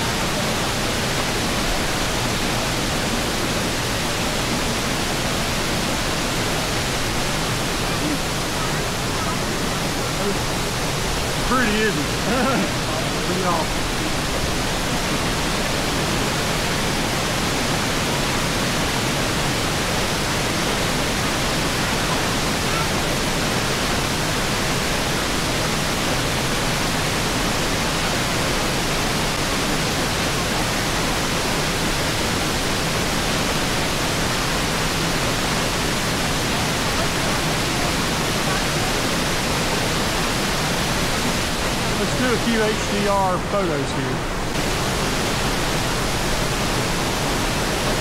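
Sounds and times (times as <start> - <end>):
waterfall roaring: 0.0 - 48.0.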